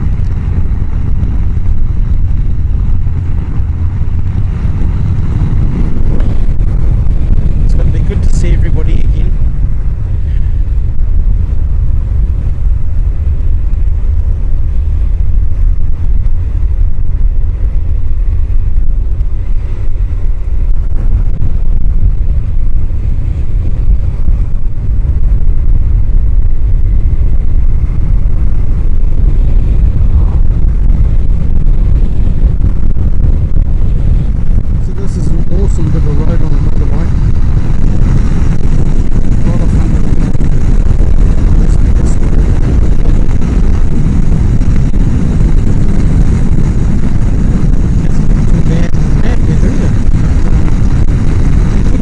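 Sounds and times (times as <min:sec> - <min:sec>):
motorcycle engine: 0:00.0 - 0:52.0
road noise: 0:00.0 - 0:52.0
wind rumble on microphone: 0:00.0 - 0:52.0.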